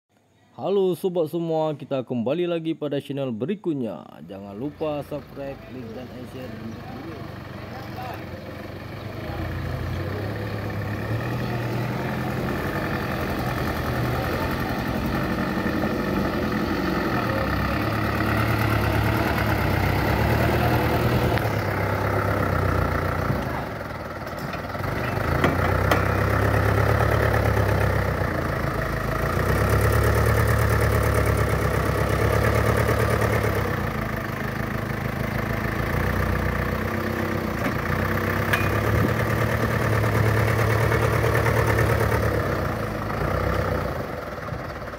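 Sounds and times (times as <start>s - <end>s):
truck engine revving: 4.4s - 44.9s.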